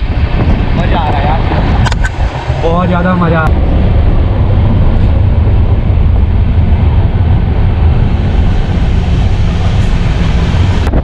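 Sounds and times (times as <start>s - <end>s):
air rushing through window: 0.0s - 11.0s
train wheels rumbling on track: 0.0s - 11.0s.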